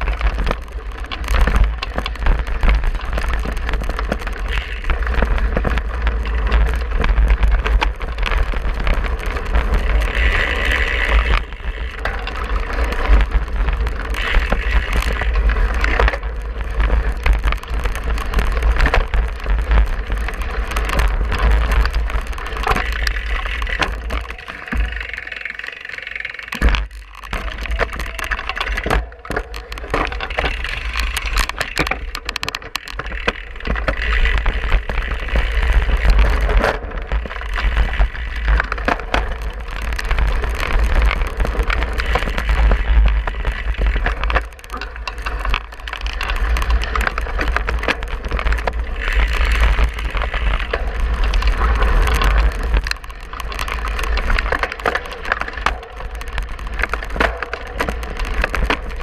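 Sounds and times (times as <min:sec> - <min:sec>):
wind rumble on microphone: 0:00.0 - 0:25.2, 0:26.5 - 0:59.0
bike frame rattling: 0:00.0 - 0:59.0
bike tyres on rough ground: 0:00.0 - 0:59.0.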